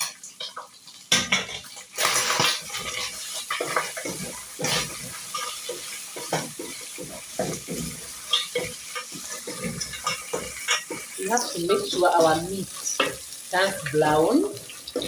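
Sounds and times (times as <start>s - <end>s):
meat sizzling in hot oil: 0.0s - 15.0s
spoon scraping and knocking pot: 0.4s - 13.2s.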